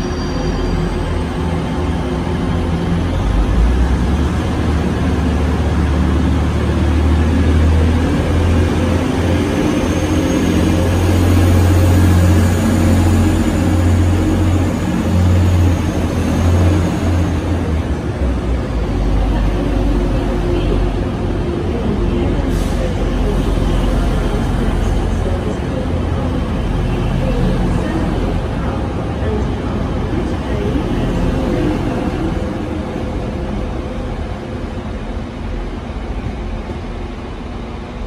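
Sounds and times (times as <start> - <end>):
diesel train engine drone: 0.0 - 38.0.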